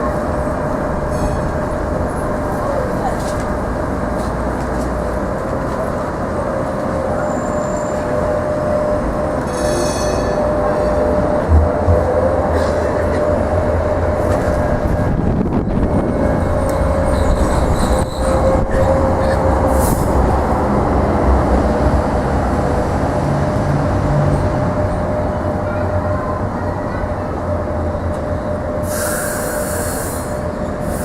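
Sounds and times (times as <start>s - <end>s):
tram rumble with whine: 0.0s - 31.0s.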